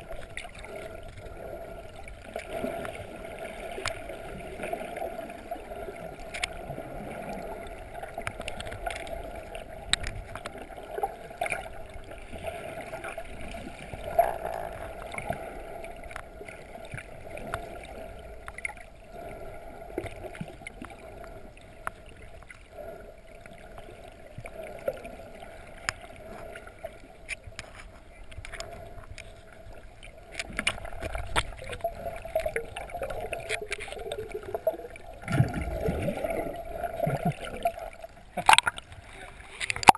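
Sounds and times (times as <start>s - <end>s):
low rumble of moving water: 0.0s - 39.9s.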